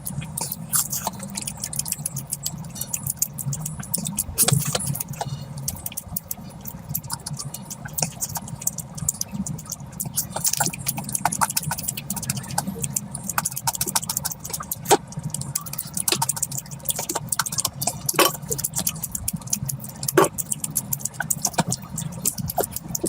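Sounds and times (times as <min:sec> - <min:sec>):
low steady hum: 0:00.0 - 0:23.0
mouth clicks and lip smacks: 0:00.0 - 0:23.0
wet chewing: 0:00.0 - 0:23.0.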